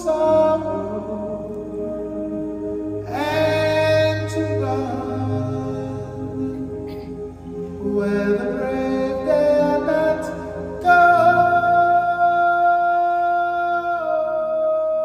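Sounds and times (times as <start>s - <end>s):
man singing a ballad: 0.0s - 2.1s, 3.0s - 15.0s
keyboard and band accompaniment: 0.0s - 15.0s.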